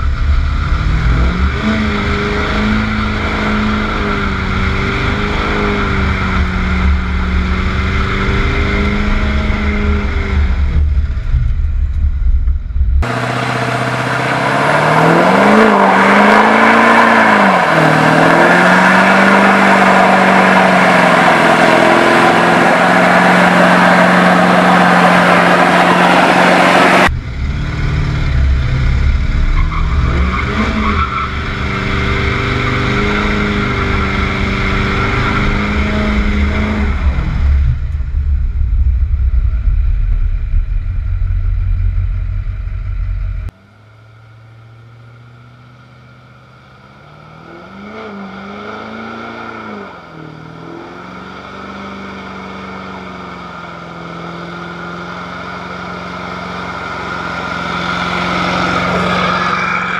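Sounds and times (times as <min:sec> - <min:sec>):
pickup engine revving: 0:00.0 - 0:43.5, 0:46.8 - 0:59.9
tires spinning: 0:00.0 - 0:43.5, 0:45.4 - 0:59.9.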